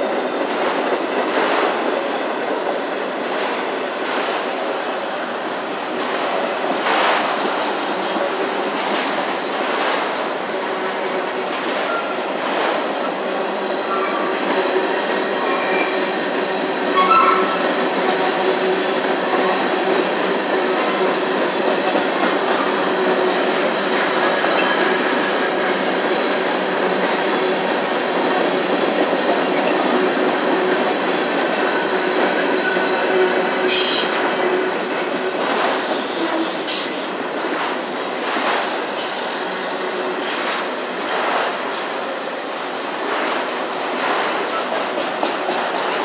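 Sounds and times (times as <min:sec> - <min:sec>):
steel wheels rolling on rail: 0:00.0 - 0:46.0.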